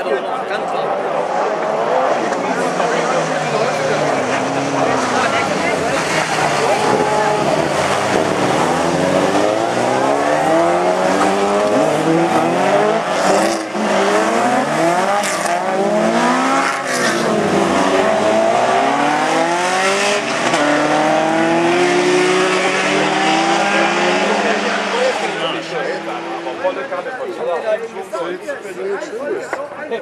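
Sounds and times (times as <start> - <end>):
racing car engines: 0.0 - 30.0.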